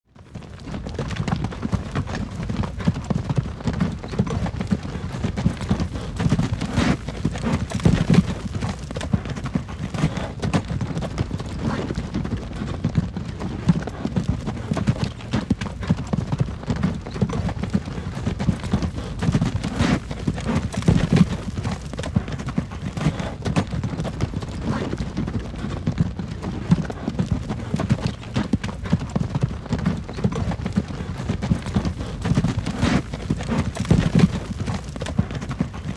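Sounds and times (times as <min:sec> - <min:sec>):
hooves clip-clopping: 0:00.2 - 0:35.9
wagon wheels rumbling: 0:00.2 - 0:35.9.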